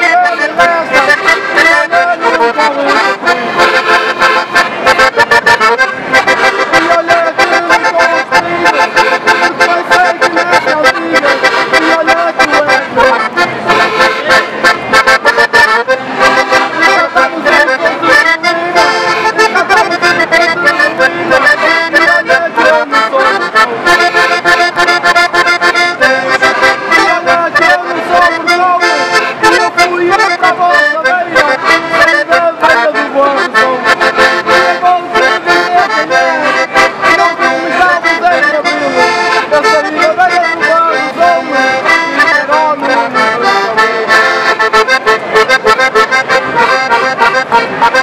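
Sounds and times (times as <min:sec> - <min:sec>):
accordions playing folk tune: 0:00.0 - 0:48.0.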